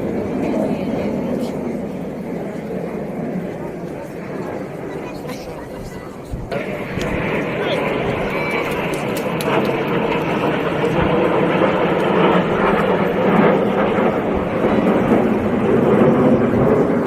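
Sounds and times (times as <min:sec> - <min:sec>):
aircraft engine flying past: 0:00.0 - 0:17.0.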